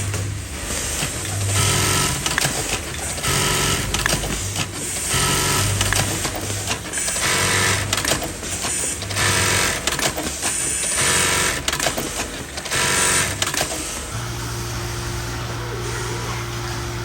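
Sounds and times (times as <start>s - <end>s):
machine hum: 0.0s - 17.0s
sewing machine stitching bursts: 0.6s - 14.6s.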